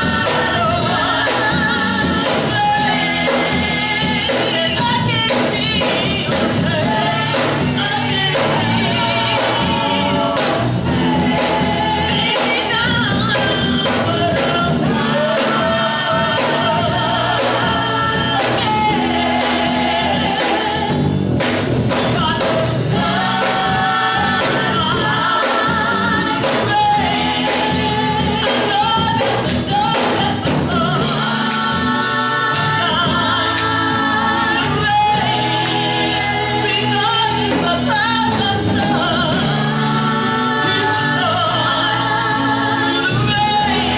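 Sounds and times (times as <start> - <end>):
gospel singing with live band: 0.0 - 43.9.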